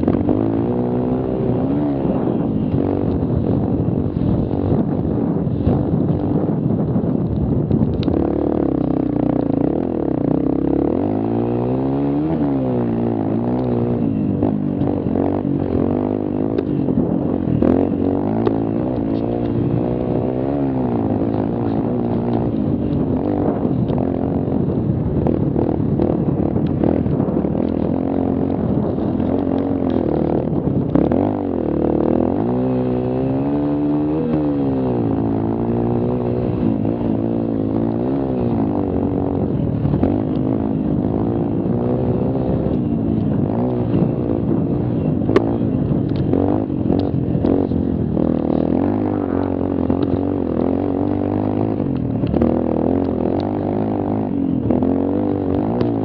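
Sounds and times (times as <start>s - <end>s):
small quad engine revving: 0.0s - 56.0s.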